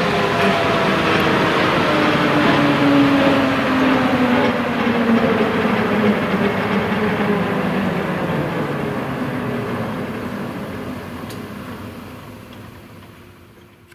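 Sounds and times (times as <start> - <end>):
helicopter turbines winding down: 0.0 - 13.6.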